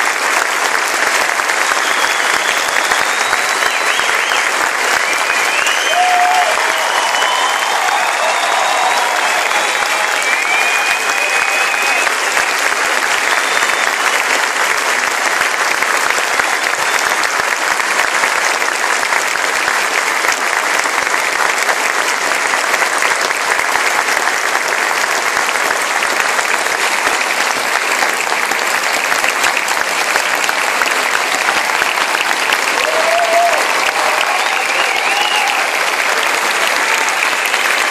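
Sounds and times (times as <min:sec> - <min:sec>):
audience applauding: 0:00.0 - 0:37.9.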